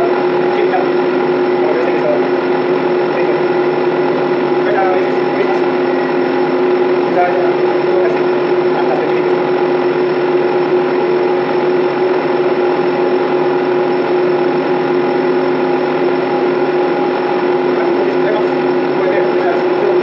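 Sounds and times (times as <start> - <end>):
ship machinery drone: 0.0 - 20.0.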